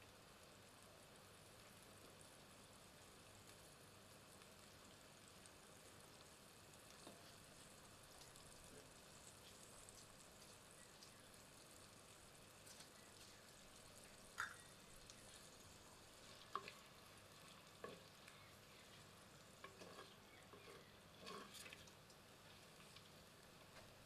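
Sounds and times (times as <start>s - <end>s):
faint sizzle: 0.0s - 24.0s.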